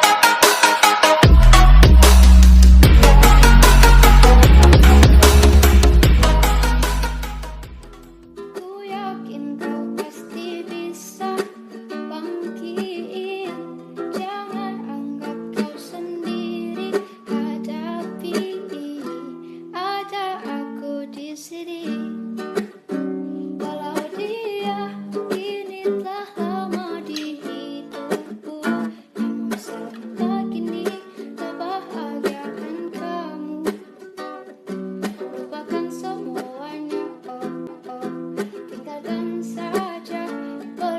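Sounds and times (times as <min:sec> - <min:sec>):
plucked acoustic guitar: 0:00.0 - 0:40.9
woman singing: 0:01.1 - 0:07.1, 0:08.5 - 0:22.3, 0:23.2 - 0:33.9, 0:35.1 - 0:40.9.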